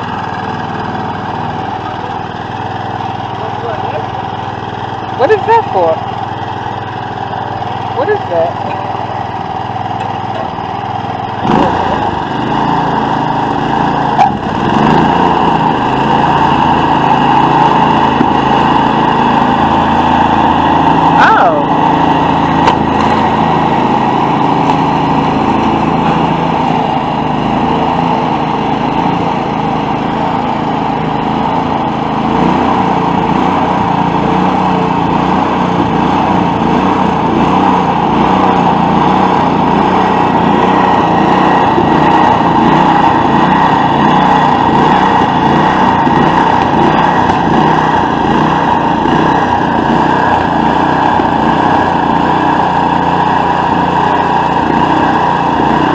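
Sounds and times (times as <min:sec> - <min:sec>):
small gasoline engine running: 0:00.0 - 0:55.9.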